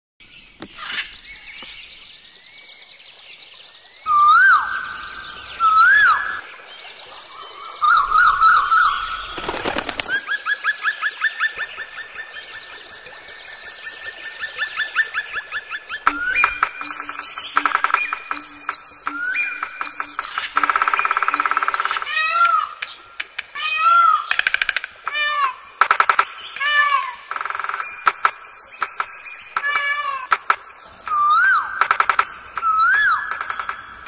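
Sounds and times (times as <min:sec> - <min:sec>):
birds singing and calling: 0:00.2 - 0:34.0.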